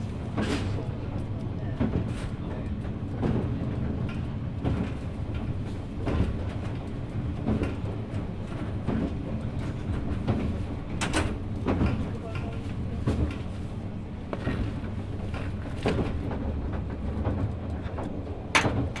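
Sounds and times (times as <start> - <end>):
train low rumble: 0.0 - 19.0
wheel clicks over rail joints: 0.3 - 13.6, 14.3 - 19.0.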